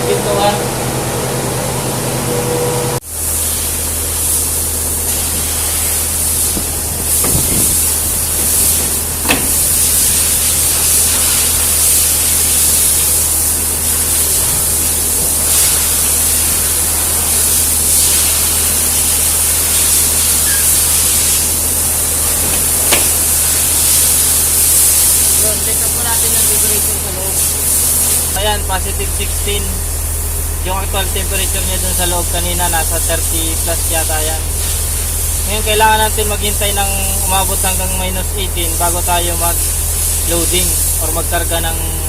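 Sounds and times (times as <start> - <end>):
refrigeration unit fans hissing: 0.0 - 42.0.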